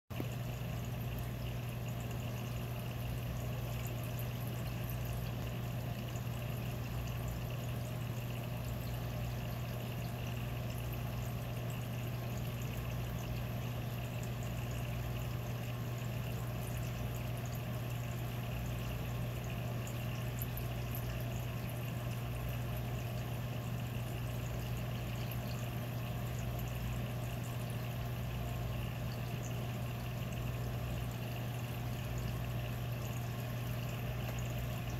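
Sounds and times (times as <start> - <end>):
low pump hum: 0.1 - 34.9
trickling water: 0.1 - 34.9.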